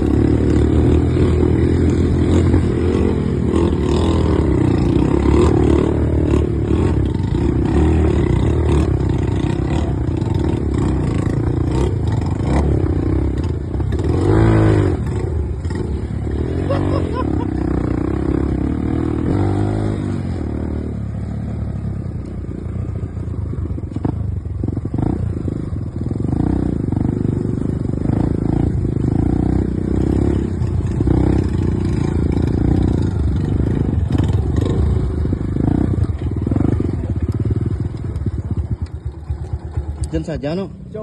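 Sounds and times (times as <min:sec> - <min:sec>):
dirt bike engine revving: 0:00.0 - 0:21.0, 0:24.0 - 0:41.0.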